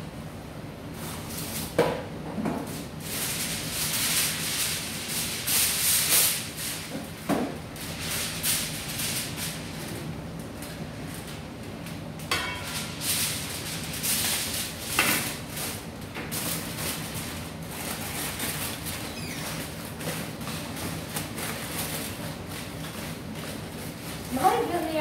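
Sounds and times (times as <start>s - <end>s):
aluminium foil crinkling: 2.6s - 25.0s.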